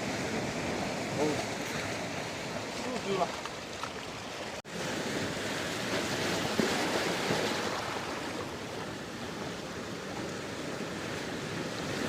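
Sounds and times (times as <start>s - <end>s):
rough sea surf: 0.0s - 12.0s.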